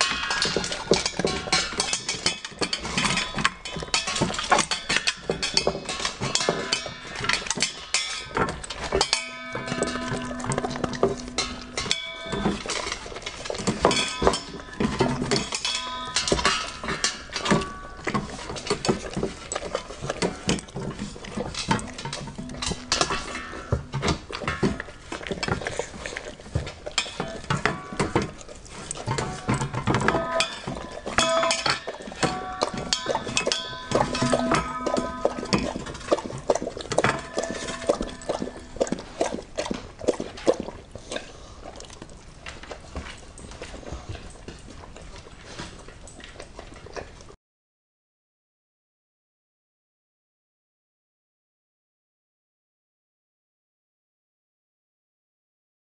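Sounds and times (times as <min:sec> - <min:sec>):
dog chewing and crunching: 0:00.0 - 0:47.4.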